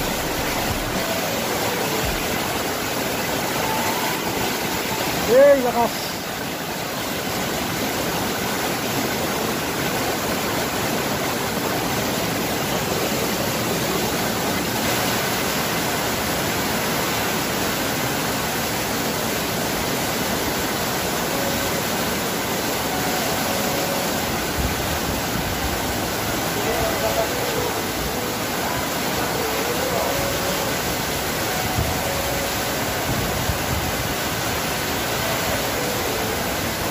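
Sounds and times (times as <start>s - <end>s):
wind and heavy rain rushing: 0.0s - 36.9s.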